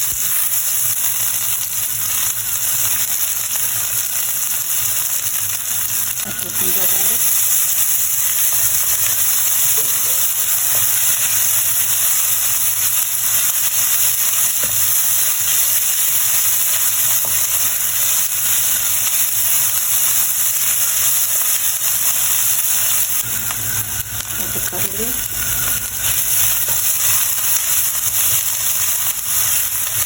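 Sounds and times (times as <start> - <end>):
hot oil sizzling in a pan: 0.0 - 30.0.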